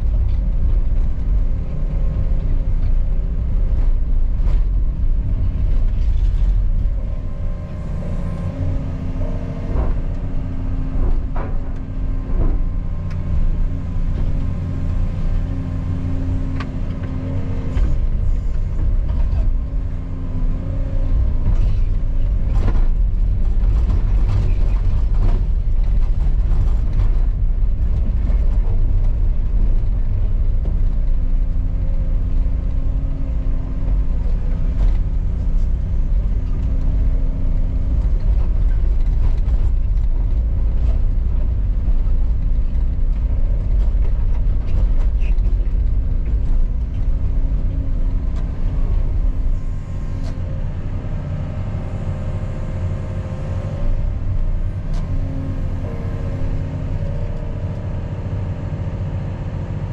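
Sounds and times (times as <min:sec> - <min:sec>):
excavator diesel engine under load: 0:00.0 - 0:59.9.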